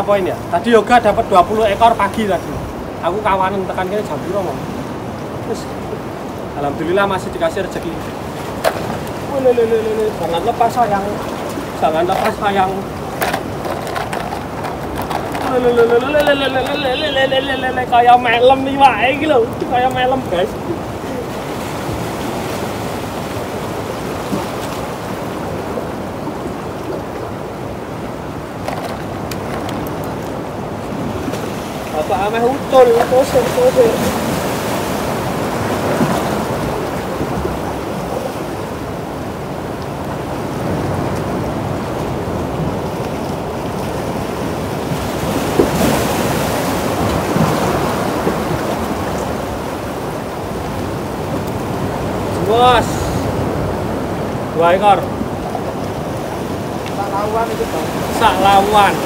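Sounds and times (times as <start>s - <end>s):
surf washing against rocks: 0.0s - 59.0s
wave breaking: 0.0s - 59.0s.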